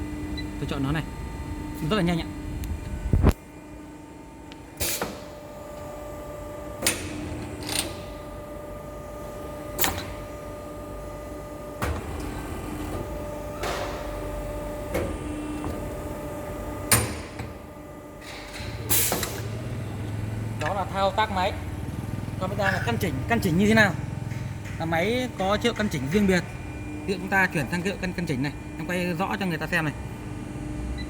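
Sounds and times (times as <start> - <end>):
motor hum: 0.0 - 31.0.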